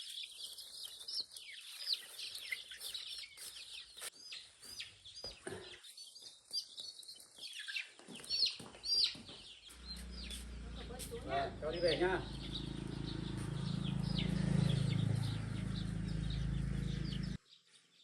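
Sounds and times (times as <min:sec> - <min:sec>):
chicks peeping: 0:00.0 - 0:17.4.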